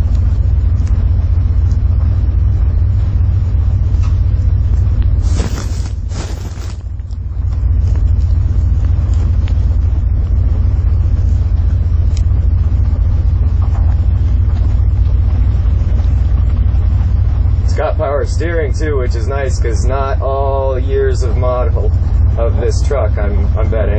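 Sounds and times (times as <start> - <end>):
deep truck engine and road rumble: 0.0 - 23.9.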